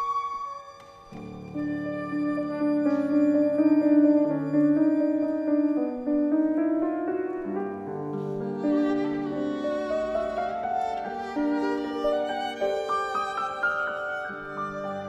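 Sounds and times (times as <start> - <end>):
bowed violins melody: 0.0 - 6.8, 7.4 - 15.0
chamber ensemble playing classical music: 0.0 - 15.0.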